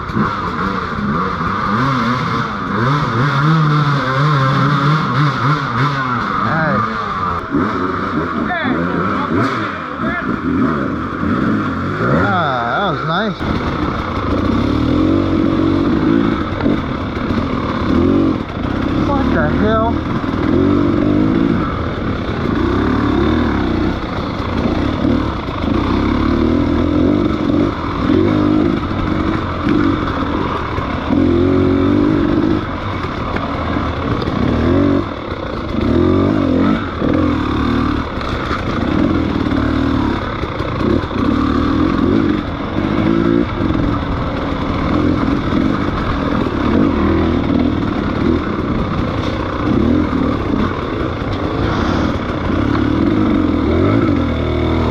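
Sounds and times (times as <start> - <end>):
engine clatter: 0.0 - 54.9
motorcycle engine revving: 0.0 - 54.9.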